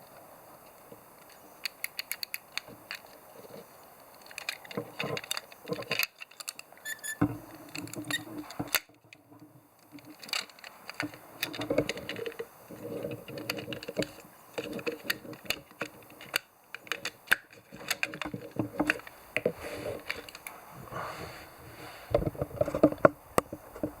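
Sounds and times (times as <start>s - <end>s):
small plastic and metal parts clicking: 0.6s - 9.2s, 9.8s - 20.5s.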